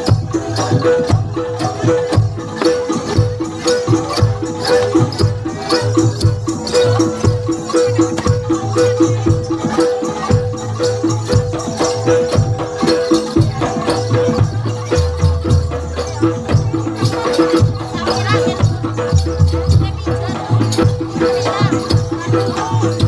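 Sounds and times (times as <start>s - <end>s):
low drum beats: 0.0s - 23.0s
pitched struck percussion notes: 0.0s - 23.0s.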